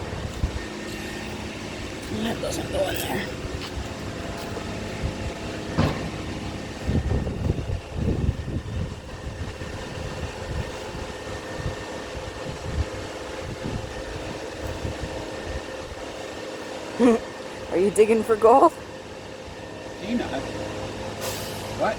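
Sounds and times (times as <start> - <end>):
construction machinery hum: 0.0 - 21.9.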